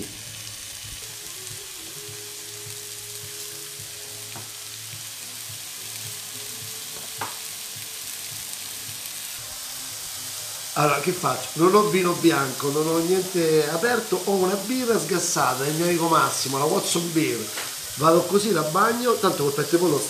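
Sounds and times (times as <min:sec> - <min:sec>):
patties sizzling in frying pan: 0:00.0 - 0:20.0.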